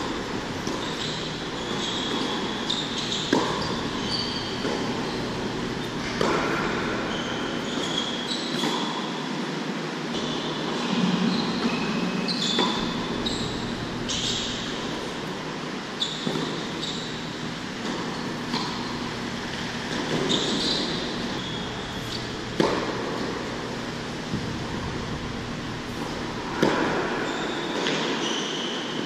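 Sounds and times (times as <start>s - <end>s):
racquets striking tennis ball: 0.0s - 8.8s, 12.4s - 15.4s, 16.1s - 28.2s
tennis ball bouncing: 0.0s - 8.8s, 12.4s - 15.4s, 16.1s - 28.1s
sneaker squeaks on court: 0.0s - 8.9s, 10.1s - 15.4s, 16.0s - 24.2s, 25.0s - 29.0s
ventilation hum: 0.0s - 29.0s.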